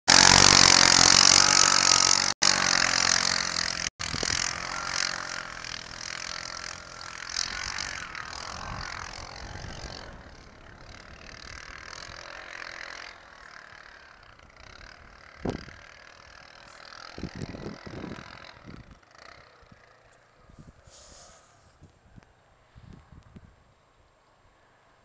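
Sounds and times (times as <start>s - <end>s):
atv engine running: 0.1s - 22.1s.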